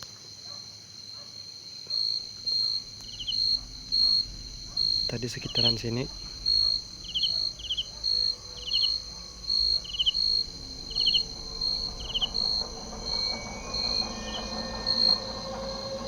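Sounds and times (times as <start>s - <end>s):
cricket pulsing call: 1.9s - 16.0s
insect trilled chirp: 1.9s - 16.0s
faint low rumble: 2.1s - 16.0s.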